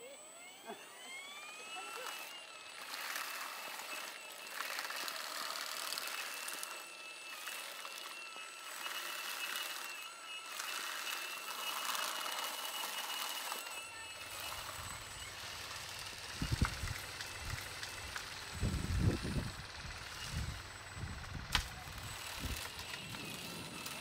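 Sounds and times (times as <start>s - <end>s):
electric motor whining: 0.0s - 24.0s
tines rustling through branches: 1.8s - 24.0s.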